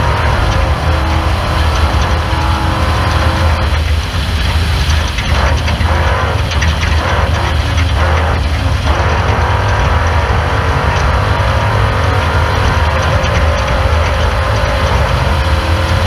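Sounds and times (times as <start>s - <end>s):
heavy mechanical rattling: 0.0s - 16.0s
race car engine drone: 0.0s - 16.0s.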